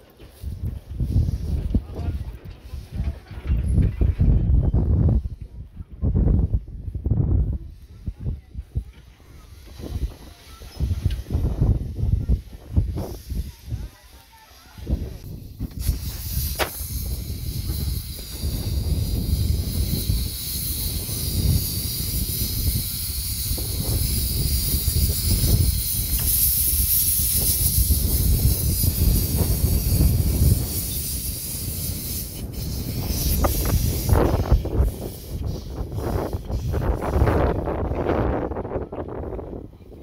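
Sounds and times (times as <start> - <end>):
steam hissing: 0.0 - 5.5, 7.2 - 39.3
steam locomotive rumble: 0.0 - 39.7.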